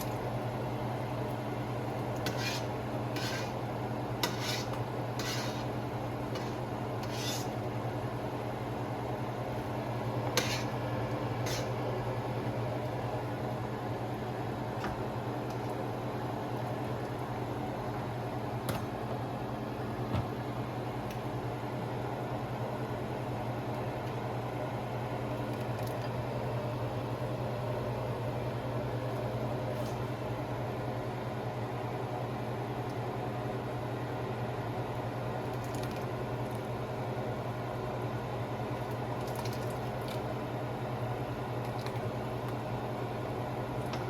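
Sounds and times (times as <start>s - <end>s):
low mechanical hum with hiss: 0.0s - 44.0s.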